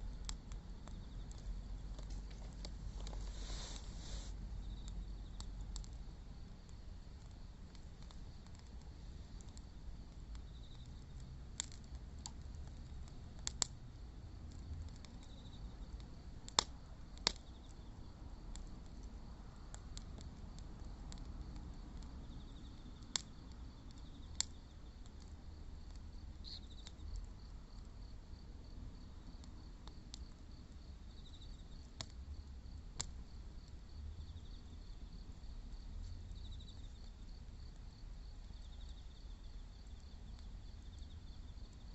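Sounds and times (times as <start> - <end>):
insects chirping: 0.0 - 11.2, 15.1 - 19.8, 20.8 - 41.9
fire popping: 0.0 - 41.9
wood fire crackling: 0.0 - 41.9.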